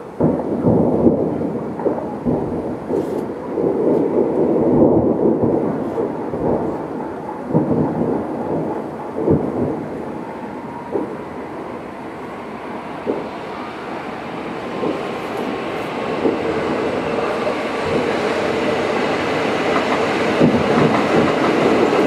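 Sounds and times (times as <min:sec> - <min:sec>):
fireworks exploding: 0:00.0 - 0:22.0.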